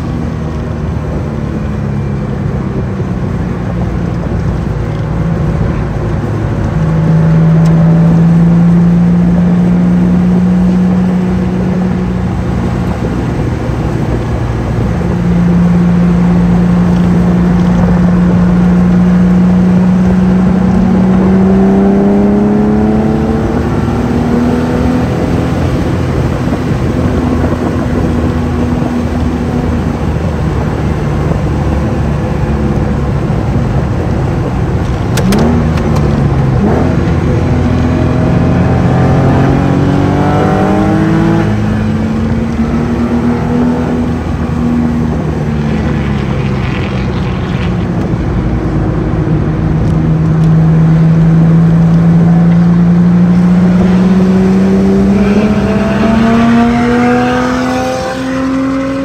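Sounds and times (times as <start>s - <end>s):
car engine at speed: 0.0s - 59.0s
road and wind noise: 0.0s - 59.0s.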